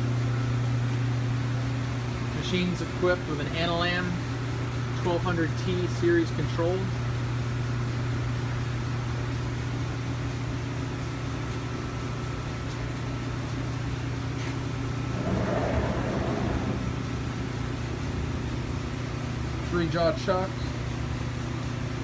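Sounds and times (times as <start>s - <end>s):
low hum of machinery: 0.0s - 22.0s.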